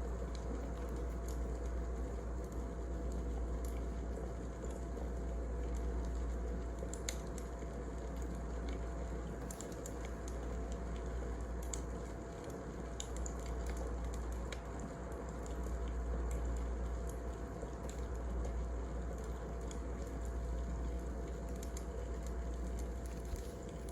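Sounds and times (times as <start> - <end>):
wood fire crackling: 0.1 - 23.9.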